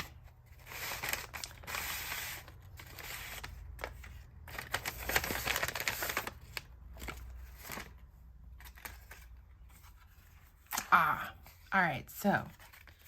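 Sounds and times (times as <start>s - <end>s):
paper packaging crinkling: 0.0s - 10.8s, 12.4s - 13.0s.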